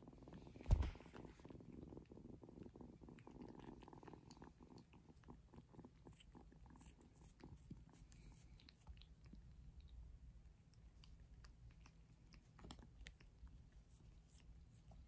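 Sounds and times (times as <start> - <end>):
kittens purring: 0.0 - 15.0.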